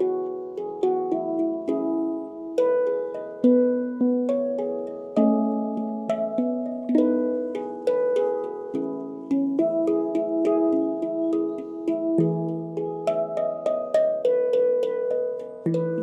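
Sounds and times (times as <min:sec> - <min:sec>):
handpan notes: 0:00.0 - 0:16.0.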